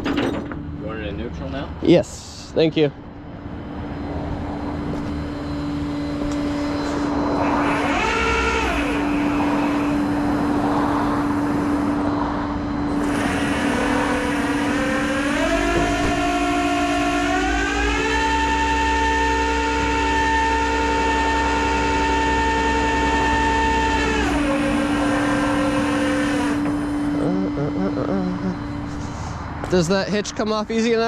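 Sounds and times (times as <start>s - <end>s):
engine whine: 0.0s - 31.0s
vehicle engine running: 3.0s - 31.0s.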